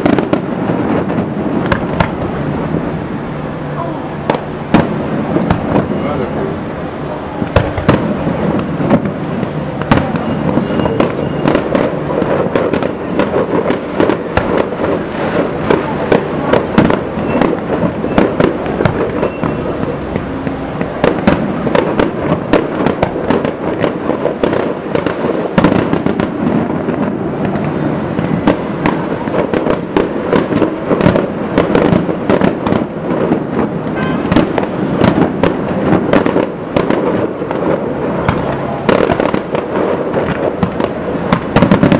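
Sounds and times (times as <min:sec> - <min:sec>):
fireworks bursting with bangs: 0:00.0 - 0:41.9.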